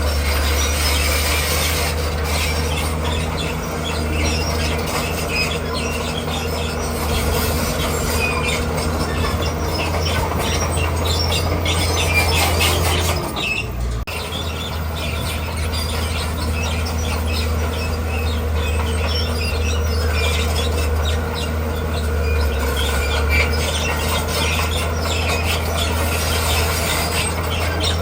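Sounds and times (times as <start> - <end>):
bulldozer diesel engine running: 0.0 - 28.0
steel tracks squeaking and clattering: 0.0 - 28.0.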